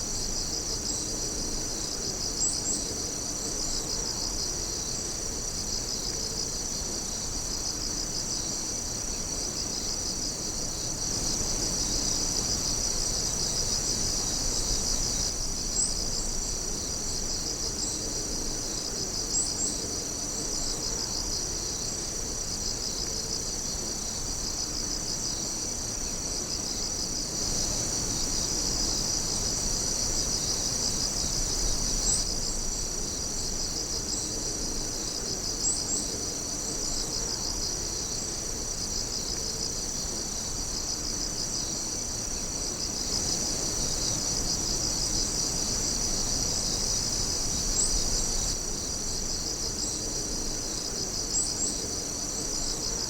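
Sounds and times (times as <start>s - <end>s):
high insect chirps: 0.0s - 53.0s
insect trills: 0.0s - 53.0s.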